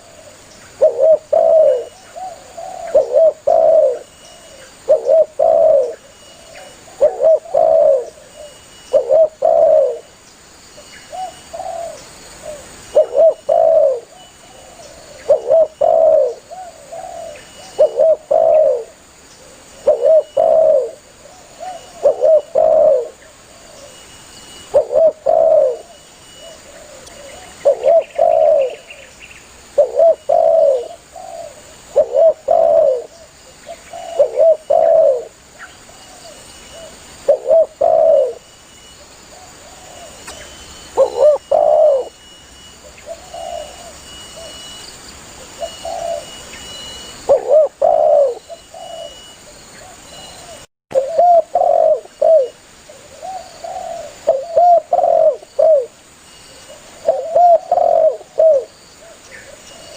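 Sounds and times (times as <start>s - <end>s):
dove cooing: 0.0s - 10.1s, 11.1s - 24.0s, 24.6s - 29.0s, 29.7s - 38.4s, 39.3s - 44.8s, 45.4s - 56.0s, 56.6s - 59.9s.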